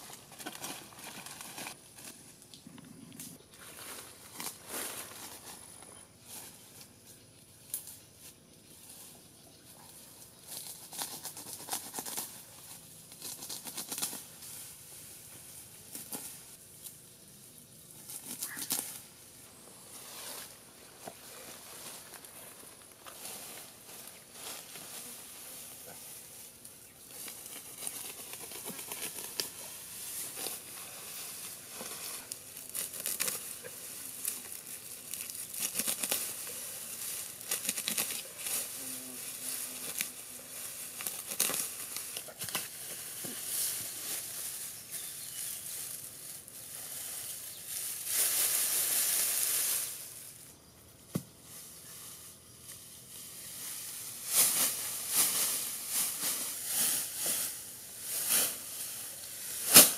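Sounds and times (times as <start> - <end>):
grass stalks tearing and rustling: 3.2 - 6.6, 9.9 - 16.9, 17.9 - 50.4, 51.4 - 59.9.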